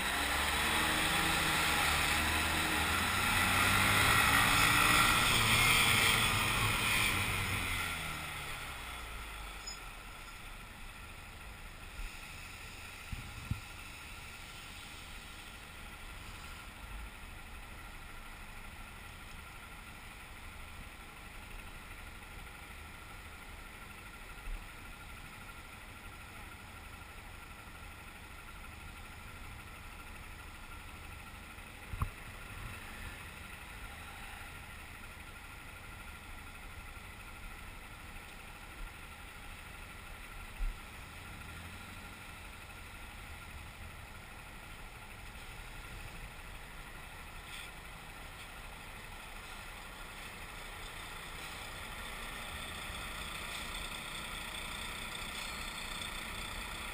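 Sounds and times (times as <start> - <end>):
traffic hum: 0.0 - 56.9
motorcycle engine idling: 6.3 - 56.9.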